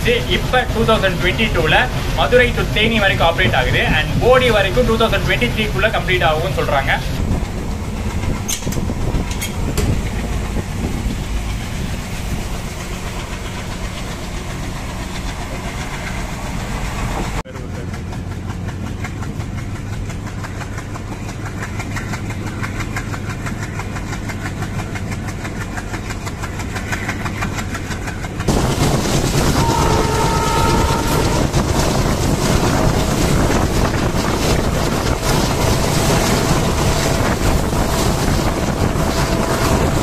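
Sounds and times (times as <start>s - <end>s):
loud train rushing noise: 0.0s - 40.0s
train running rumble: 0.0s - 40.0s.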